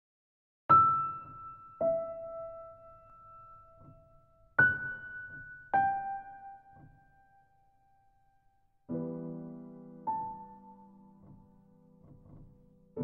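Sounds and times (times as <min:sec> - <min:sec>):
slow solo piano notes: 0:00.7 - 0:13.0.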